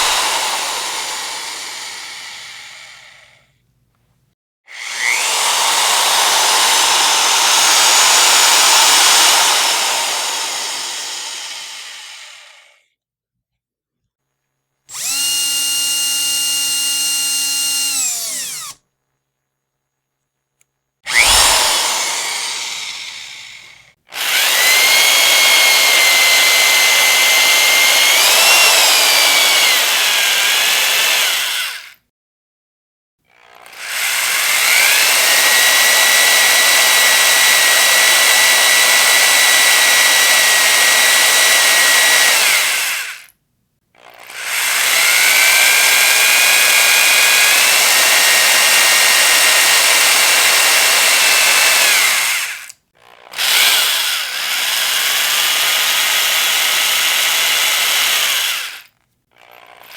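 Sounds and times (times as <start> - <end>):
electric drill whining: 0.0 - 3.4, 4.7 - 12.8, 14.9 - 18.8, 21.1 - 32.0, 33.5 - 43.3, 44.0 - 59.9.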